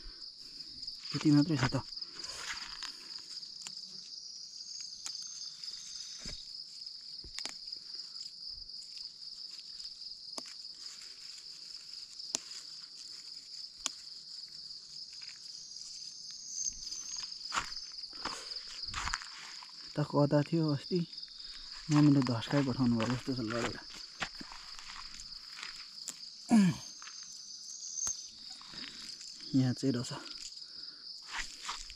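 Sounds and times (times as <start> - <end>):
night insects chirping: 0.0 - 31.9
plants being picked by hand: 0.0 - 31.9.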